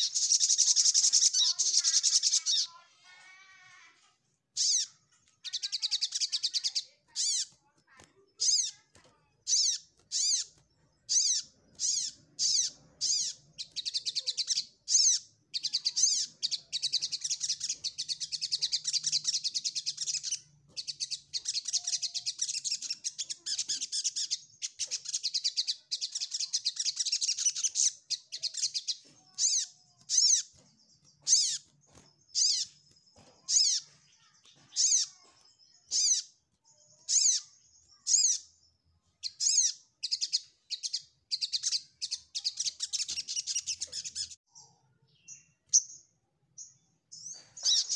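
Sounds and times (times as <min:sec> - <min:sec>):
bird chirping and twittering: 0:00.0 - 0:47.9.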